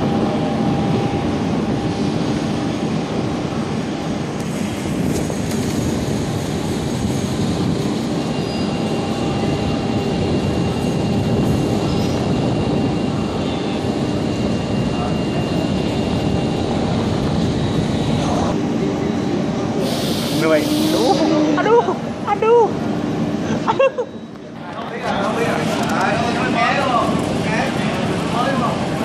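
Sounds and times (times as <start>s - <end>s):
heavy rain in strong wind: 0.0s - 24.0s, 24.8s - 29.0s.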